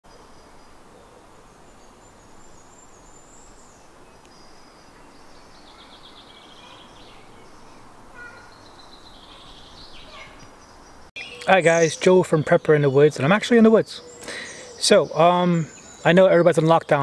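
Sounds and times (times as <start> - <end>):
background hiss: 0.1 - 17.0
bird trill: 1.6 - 17.0
high bird song phrase: 1.6 - 17.0.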